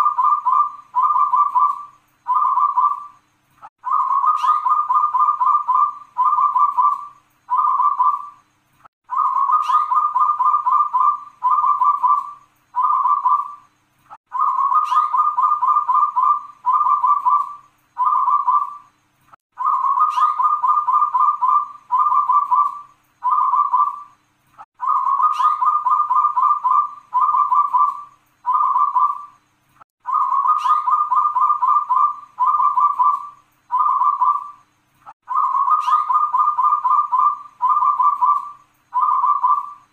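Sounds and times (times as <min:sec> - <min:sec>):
dove cooing: 0:00.0 - 0:03.2, 0:03.8 - 0:08.4, 0:09.1 - 0:13.7, 0:14.3 - 0:18.8, 0:19.6 - 0:24.1, 0:24.8 - 0:29.4, 0:30.0 - 0:34.6, 0:35.2 - 0:39.9.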